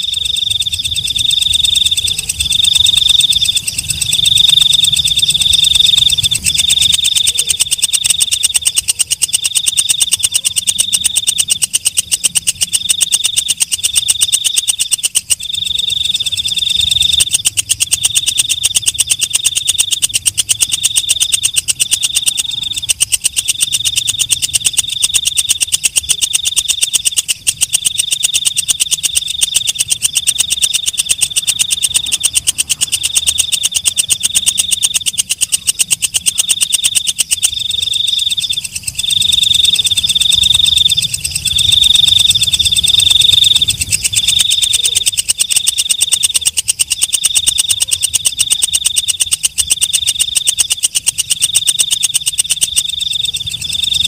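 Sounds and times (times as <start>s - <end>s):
katydid buzzing chirp: 0.0s - 54.0s.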